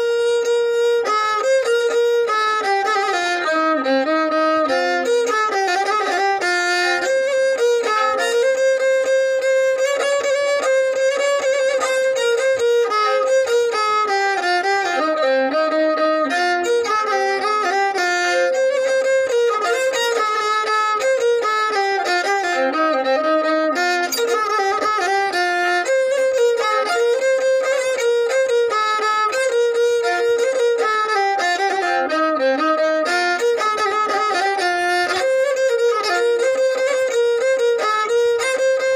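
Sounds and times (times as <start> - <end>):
violin melody: 0.0 - 38.9.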